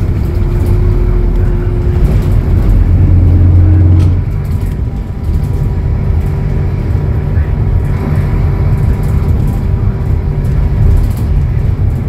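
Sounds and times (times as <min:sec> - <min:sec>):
bus diesel engine under load: 0:00.0 - 0:12.0.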